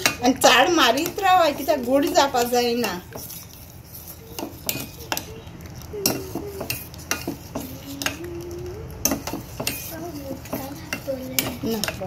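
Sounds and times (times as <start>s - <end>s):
metal spoon scraping a pot: 0.0s - 12.0s.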